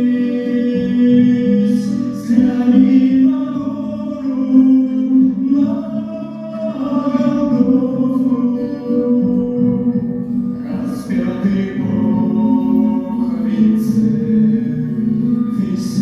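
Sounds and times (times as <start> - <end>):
voices singing long notes: 0.0 - 16.0.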